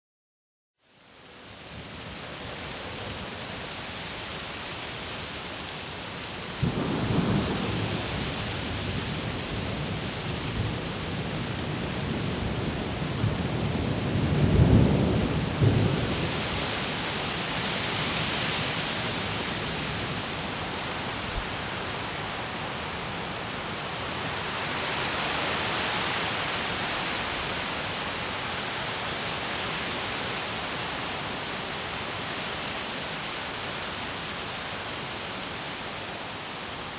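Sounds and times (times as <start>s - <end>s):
leaves rustling in wind: 0.8s - 36.9s
rain hissing in trees: 0.8s - 36.9s.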